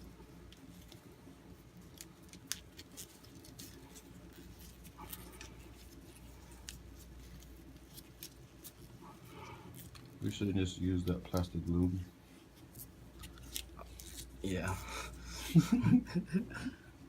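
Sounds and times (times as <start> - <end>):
electrical tape crackling: 0.0 - 15.8.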